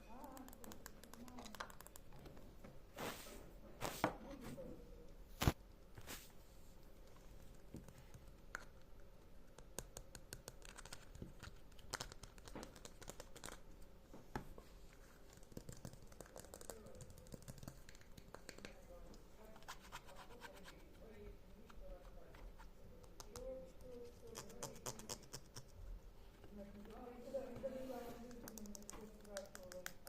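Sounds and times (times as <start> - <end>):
soft crinkling: 0.0 - 9.2, 9.9 - 30.0.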